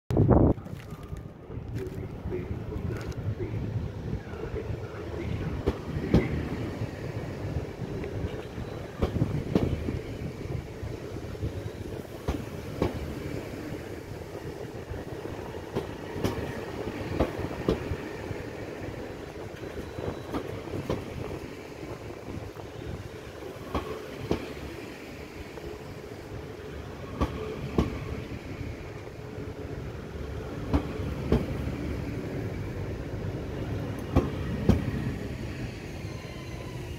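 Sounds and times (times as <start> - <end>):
train wheels rumbling on rail: 0.1 - 36.9.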